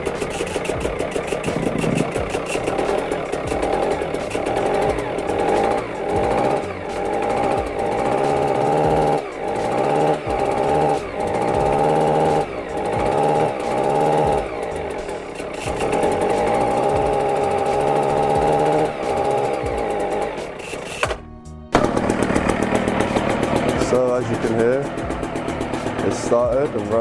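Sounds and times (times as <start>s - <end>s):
concrete breaker engine running: 0.0s - 27.0s.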